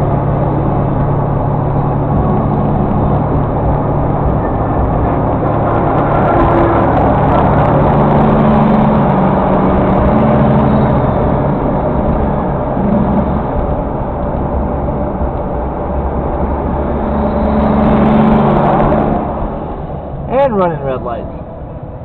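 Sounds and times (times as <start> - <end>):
car engine and tyre drone: 0.0 - 22.0.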